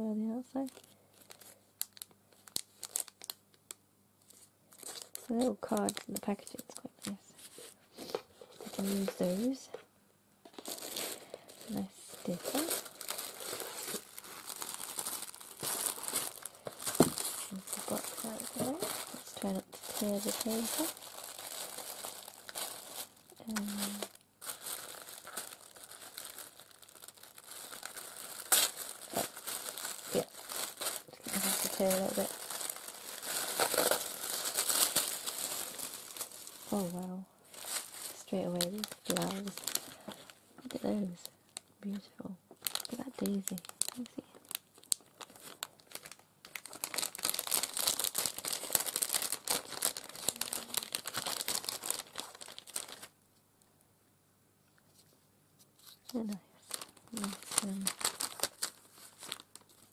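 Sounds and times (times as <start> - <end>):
tissue paper crinkling: 0.5 - 3.4, 4.2 - 9.7, 10.5 - 41.2, 42.6 - 53.1, 55.8 - 59.9
sharp paper crackle: 0.5 - 9.6, 10.5 - 41.2, 42.6 - 53.1, 55.8 - 59.9.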